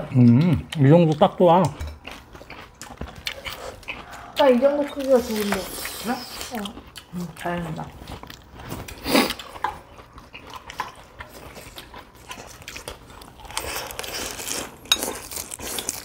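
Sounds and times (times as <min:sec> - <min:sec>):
crunchy food being chewed: 0:00.0 - 0:16.0.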